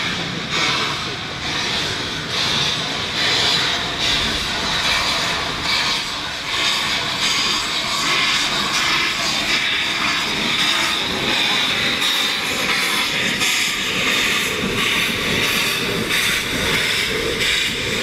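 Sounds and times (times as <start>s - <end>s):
heavy hiss of steam: 0.0s - 18.0s
steam locomotive moving off: 0.0s - 18.0s.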